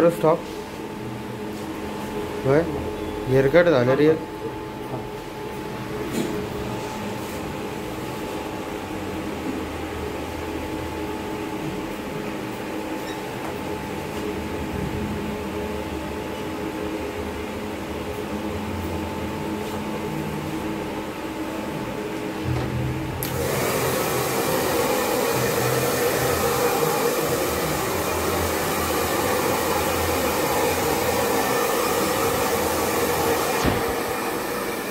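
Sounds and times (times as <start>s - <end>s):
electric fan motor hum: 0.0s - 34.9s.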